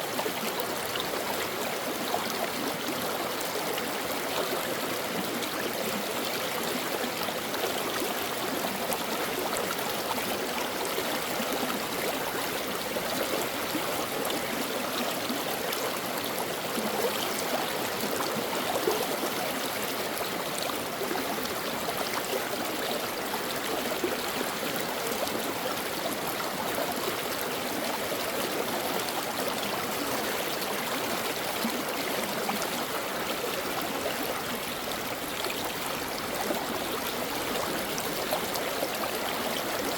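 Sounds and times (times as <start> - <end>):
brook water running over rocks: 0.0 - 39.9.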